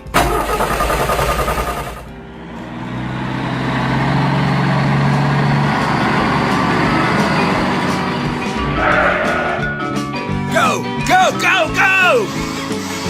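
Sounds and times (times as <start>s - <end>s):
vehicle engine rushing: 0.0s - 11.0s
whining tone: 0.2s - 11.0s.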